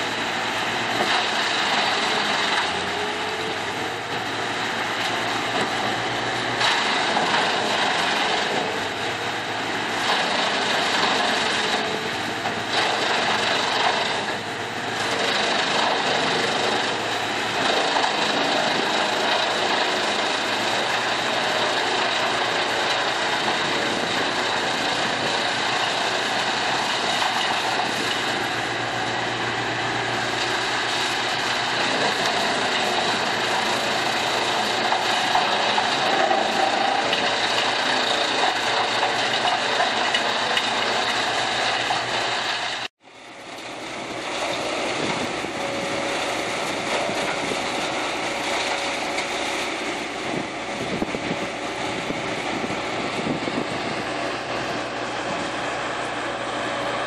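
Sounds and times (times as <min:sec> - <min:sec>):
wood chipper running: 0:00.0 - 0:57.0.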